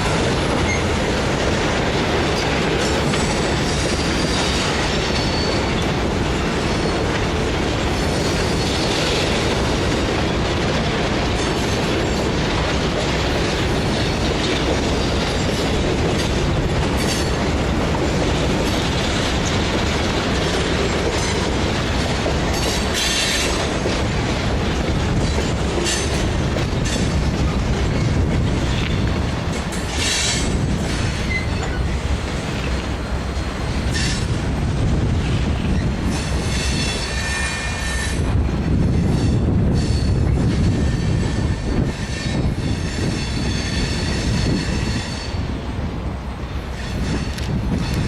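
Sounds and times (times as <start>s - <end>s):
train rumbling on rails: 0.0s - 48.0s.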